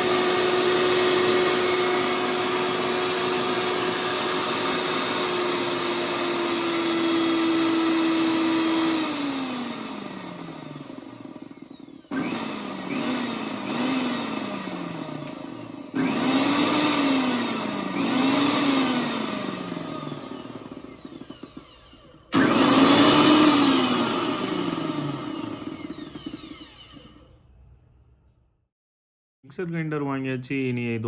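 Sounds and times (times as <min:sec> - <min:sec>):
mixer motor whining: 0:00.0 - 0:28.2.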